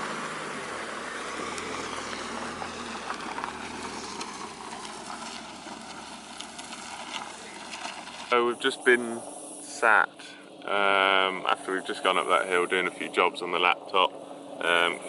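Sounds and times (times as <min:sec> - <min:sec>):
van engine and road noise: 0:00.0 - 0:15.0.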